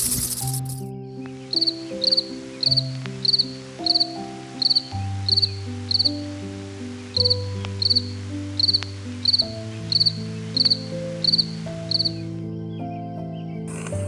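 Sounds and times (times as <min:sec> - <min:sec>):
cricket chirping: 0:00.0 - 0:06.2, 0:06.8 - 0:12.3, 0:13.7 - 0:14.0
music of slow sustained notes: 0:00.0 - 0:14.0.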